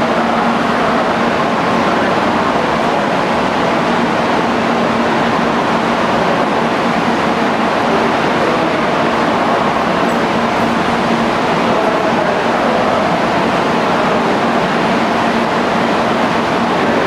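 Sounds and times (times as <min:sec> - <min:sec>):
constant low hum: 0:00.0 - 0:17.0
train rushing rumble: 0:00.0 - 0:17.0.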